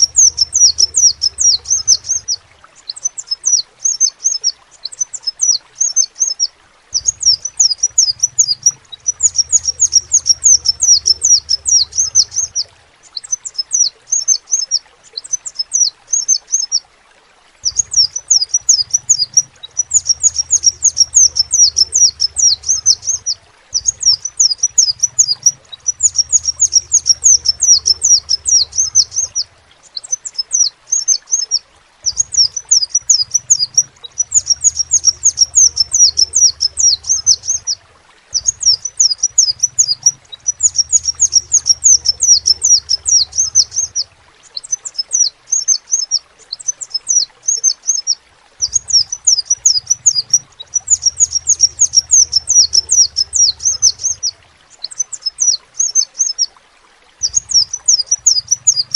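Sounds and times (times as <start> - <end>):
bird twittering song: 0.0 - 16.9, 17.5 - 56.5, 57.2 - 58.9.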